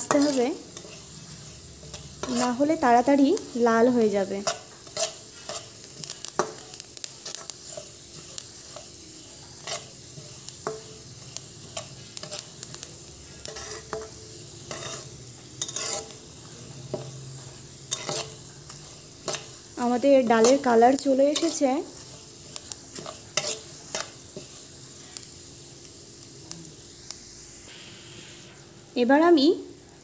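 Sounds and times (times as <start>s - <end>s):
spatula scraping pan: 0.0s - 25.3s
light sizzle of frying: 0.0s - 30.0s.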